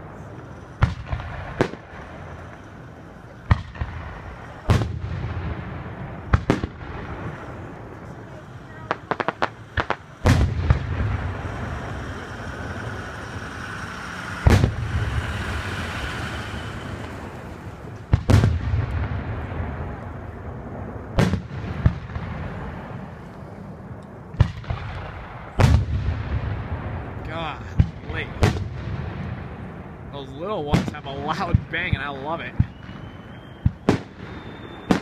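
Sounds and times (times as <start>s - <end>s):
fireworks bursting with rumble: 0.0s - 35.0s.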